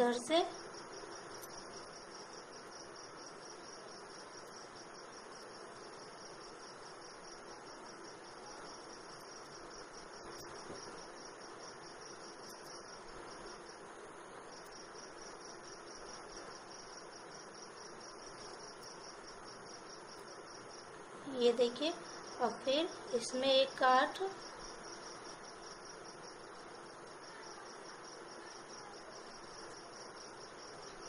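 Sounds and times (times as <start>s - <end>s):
crickets chirping: 0.0s - 31.0s
faint hiss: 0.0s - 31.0s.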